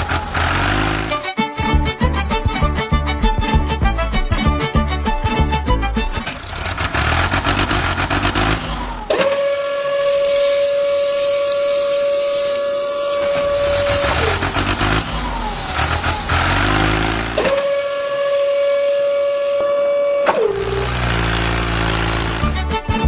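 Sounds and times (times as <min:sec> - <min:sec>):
truck motor high-pitched whine: 0:00.0 - 0:01.8, 0:05.2 - 0:23.0
low uneven engine rumble: 0:00.0 - 0:23.0.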